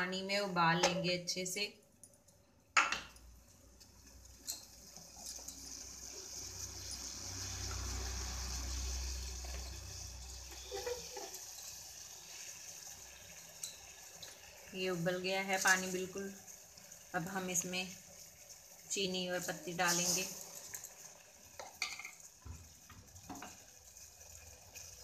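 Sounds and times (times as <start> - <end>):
water boiling in a metal pot: 2.9 - 25.0.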